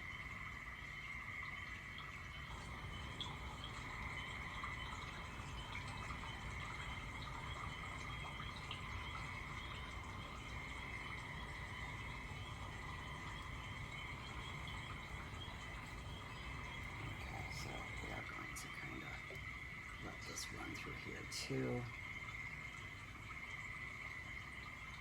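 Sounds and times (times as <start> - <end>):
frogs and insects trilling: 0.0 - 25.0.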